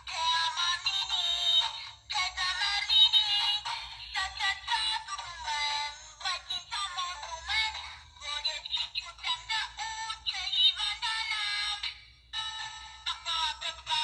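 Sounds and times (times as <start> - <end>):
toy doll high-pitched singing: 0.0 - 14.0.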